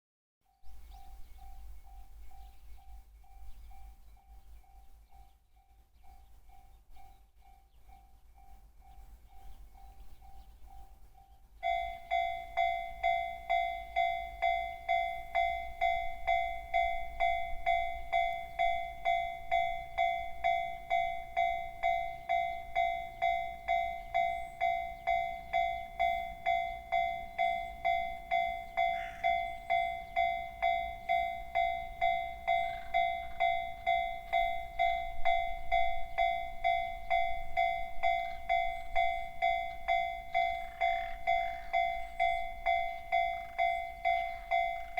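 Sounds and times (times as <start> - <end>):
level crossing warning bell: 0.5 - 44.9.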